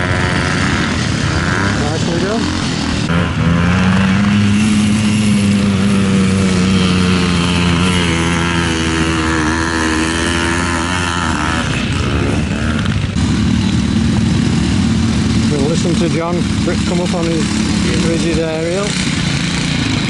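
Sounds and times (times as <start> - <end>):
another engine: 0.0 - 20.0
motorcycle engine climbing hill: 0.0 - 20.0.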